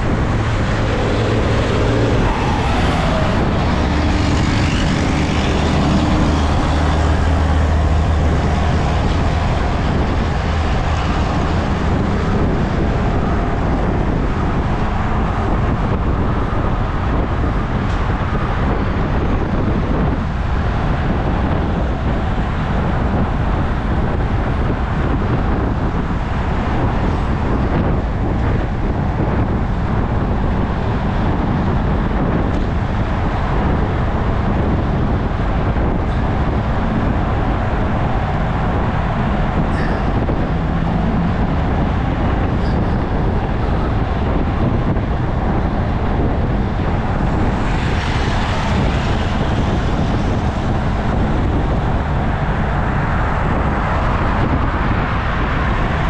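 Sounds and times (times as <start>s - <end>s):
car traffic passing: 0.0s - 56.0s
wind rushing over microphone: 0.0s - 56.0s.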